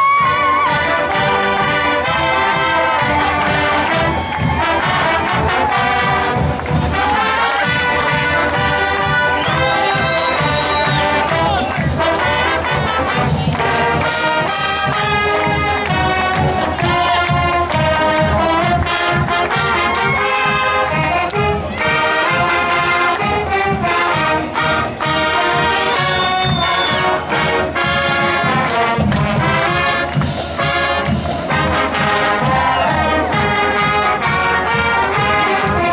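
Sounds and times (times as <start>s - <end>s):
marching band playing: 0.0s - 35.9s.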